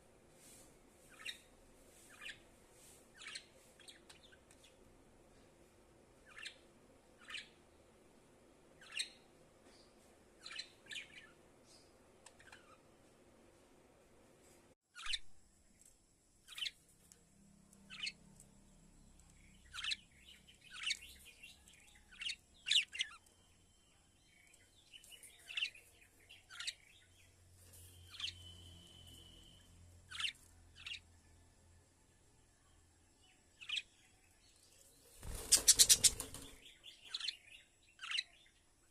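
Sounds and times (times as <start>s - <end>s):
small bird chirping: 1.0s - 2.4s, 3.1s - 4.8s, 6.2s - 7.7s, 8.8s - 12.9s, 14.9s - 31.5s, 32.1s - 38.9s.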